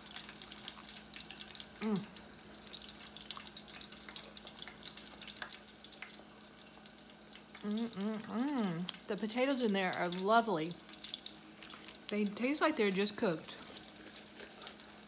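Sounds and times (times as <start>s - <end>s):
food deep frying in oil: 0.0s - 15.0s.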